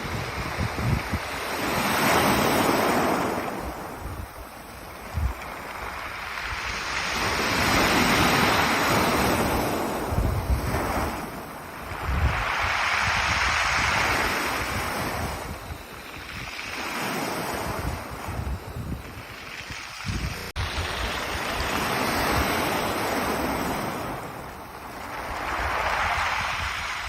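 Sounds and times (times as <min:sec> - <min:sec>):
surf on pebble beach: 0:00.0 - 0:27.0
wind rumble on microphone: 0:00.0 - 0:27.0.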